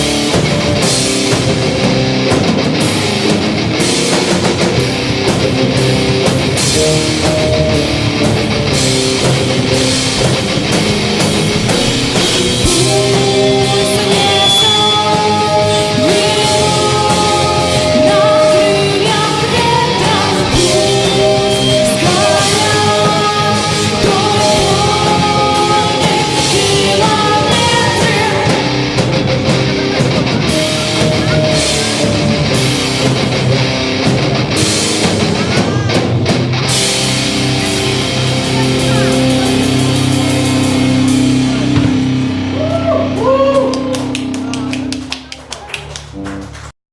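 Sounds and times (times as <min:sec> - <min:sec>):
drum kit with cymbals: 0:00.0 - 0:45.1
electric guitar: 0:00.0 - 0:46.7.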